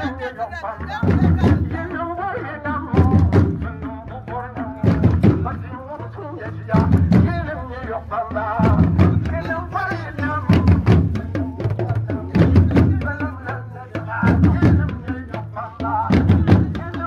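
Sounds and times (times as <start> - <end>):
person singing: 0.0 - 17.0
steady drumming: 0.0 - 17.0.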